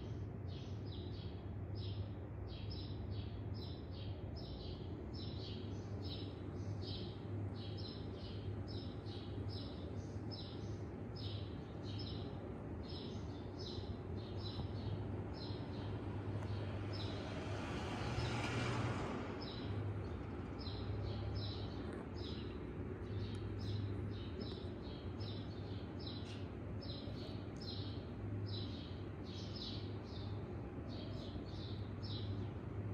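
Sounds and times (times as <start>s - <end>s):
small birds chirping: 0.0s - 17.4s, 19.4s - 32.9s.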